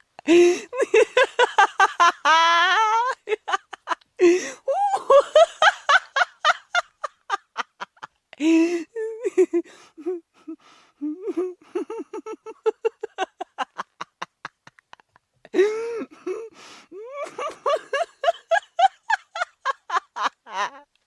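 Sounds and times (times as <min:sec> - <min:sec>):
person laughing hard: 0:00.3 - 0:10.2, 0:11.0 - 0:20.9.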